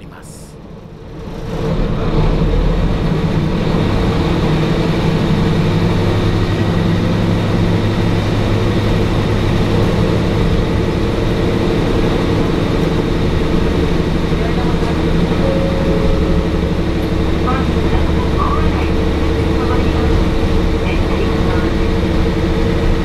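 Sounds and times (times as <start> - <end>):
diesel railcar engine: 0.0 - 23.0.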